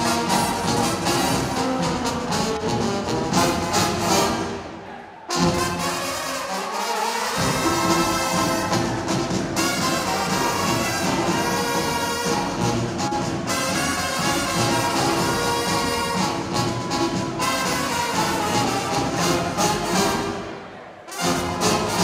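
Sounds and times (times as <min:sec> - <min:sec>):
drums: 0:00.0 - 0:04.8, 0:07.2 - 0:22.0
brass band playing: 0:00.0 - 0:22.0.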